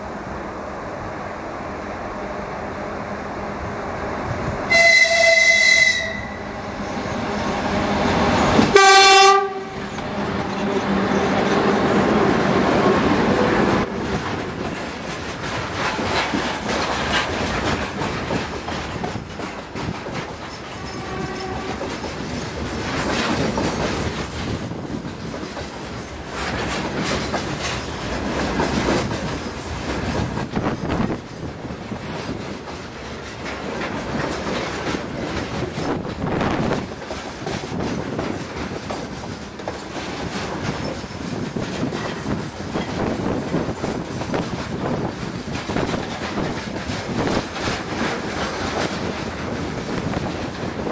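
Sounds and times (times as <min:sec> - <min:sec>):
locomotive passing: 0:00.0 - 0:50.9
train wheels clacking over rail joints: 0:08.5 - 0:50.9.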